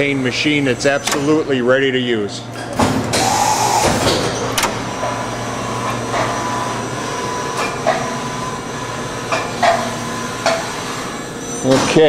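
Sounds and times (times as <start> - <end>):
machining center hum and whine: 0.0 - 12.0.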